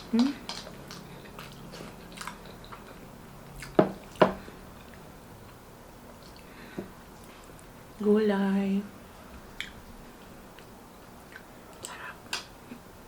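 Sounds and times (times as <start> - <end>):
wet chewing and mouth sounds: 0.0 - 7.7, 9.5 - 12.8.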